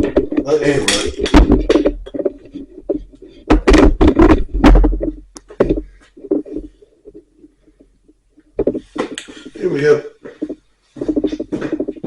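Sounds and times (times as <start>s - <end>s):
handling knocks and thumps: 0.0s - 9.6s, 10.2s - 12.0s.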